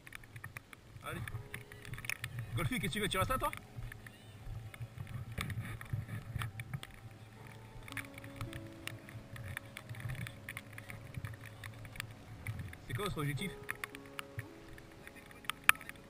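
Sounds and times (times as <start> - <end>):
kit rustling and clicking: 0.0 - 16.0
wind on microphone: 0.0 - 16.0.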